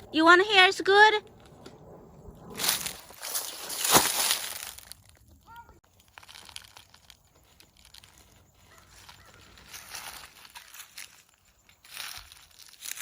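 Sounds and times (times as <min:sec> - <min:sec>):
crinkling crumpling rustle: 0:02.6 - 0:13.0.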